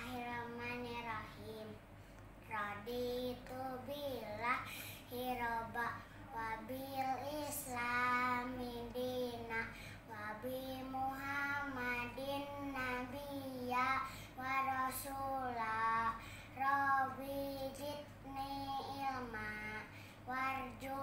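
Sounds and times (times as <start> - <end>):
boy chanting a prayer: 0.0 - 21.0.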